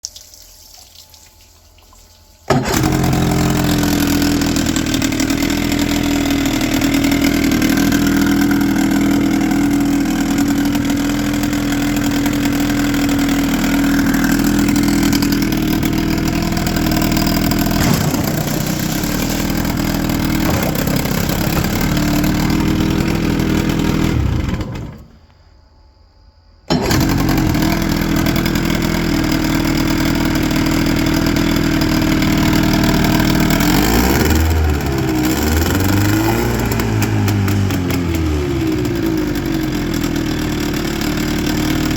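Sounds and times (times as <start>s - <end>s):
outboard engine running: 2.5s - 25.2s, 26.7s - 41.9s.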